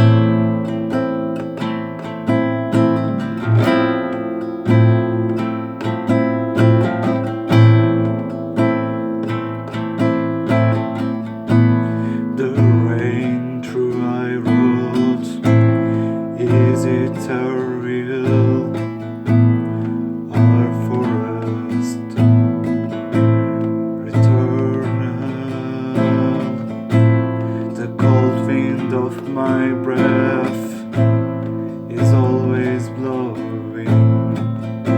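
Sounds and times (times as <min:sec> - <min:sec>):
classical guitar playing: 0:00.0 - 0:34.9
wordless singing with vibrato: 0:00.0 - 0:34.9.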